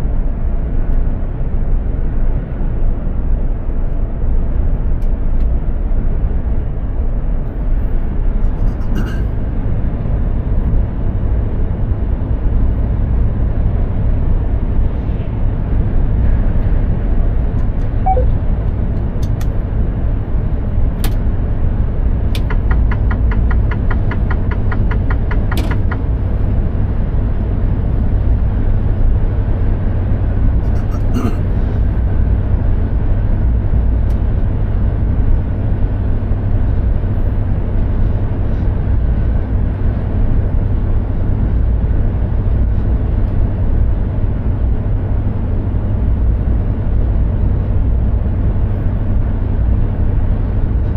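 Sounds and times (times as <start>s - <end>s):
truck engine and road rumble: 0.0s - 50.9s.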